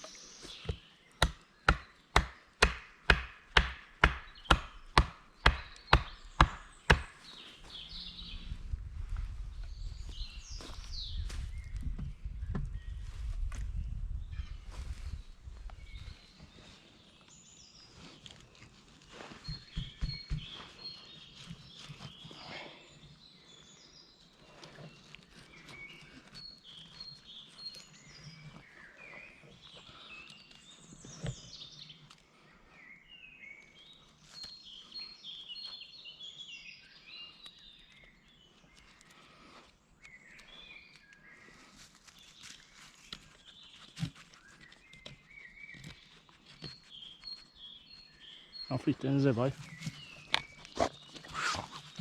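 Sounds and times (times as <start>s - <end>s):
birds chirping: 0.0s - 13.2s, 13.9s - 52.0s.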